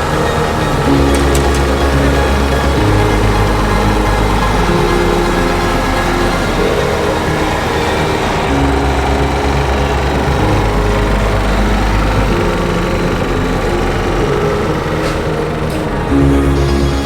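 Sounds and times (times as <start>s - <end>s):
music with dense bass line: 0.0s - 17.0s.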